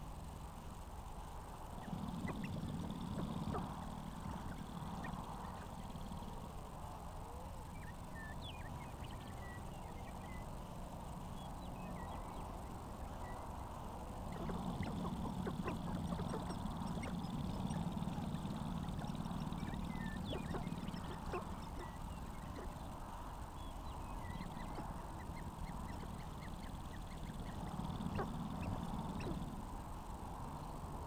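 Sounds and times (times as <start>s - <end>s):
small birds chirping: 0.0s - 31.0s
grouse clucking and cackling: 1.4s - 30.8s.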